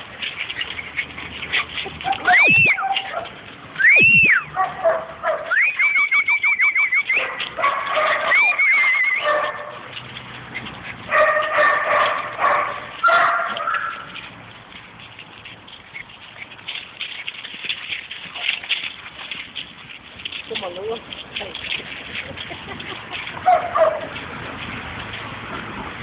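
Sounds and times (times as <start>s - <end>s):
puppies whining and yelping: 0.1s - 14.3s, 15.7s - 20.4s, 21.6s - 24.2s.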